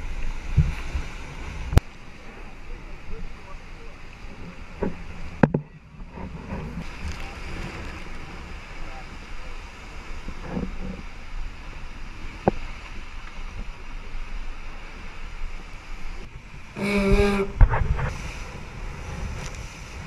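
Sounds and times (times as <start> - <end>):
water noise: 0.0 - 20.0
wind buffeting microphone: 0.0 - 20.0.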